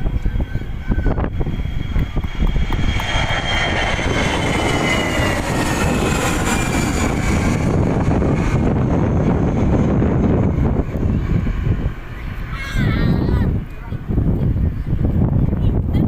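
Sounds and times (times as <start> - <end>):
airplane engines passing: 0.0 - 16.0
high engine whine: 0.0 - 16.0.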